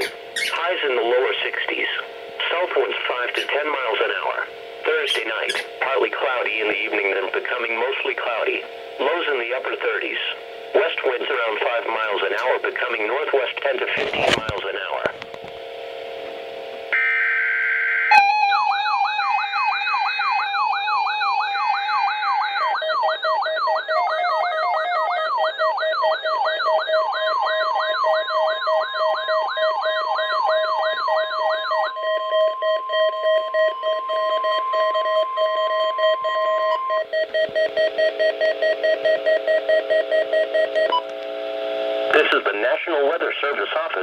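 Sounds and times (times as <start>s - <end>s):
steady beeping tones: 0.0s - 13.6s, 18.1s - 41.1s
warbling alert siren: 0.0s - 14.6s, 16.9s - 40.9s.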